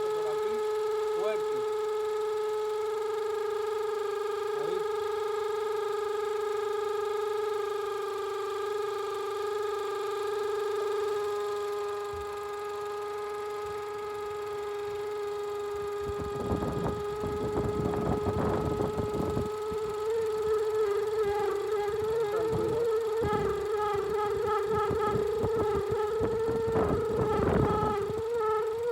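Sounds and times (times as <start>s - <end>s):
engine buzzing tone: 0.0s - 28.9s.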